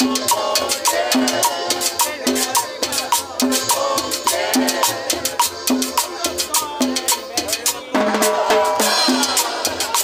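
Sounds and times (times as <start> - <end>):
drums and cymbal beat: 0.0 - 10.0
live cumbia band: 0.0 - 10.0.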